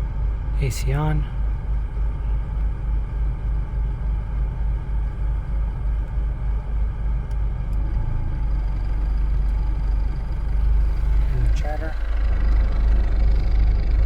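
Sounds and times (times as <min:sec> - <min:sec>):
car engine rumble from inside: 0:00.0 - 0:14.0.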